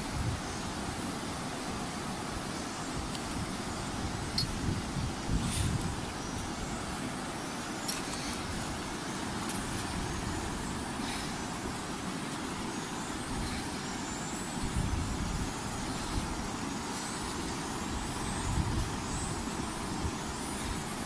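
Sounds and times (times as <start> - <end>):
river water over rapids: 0.0 - 21.0.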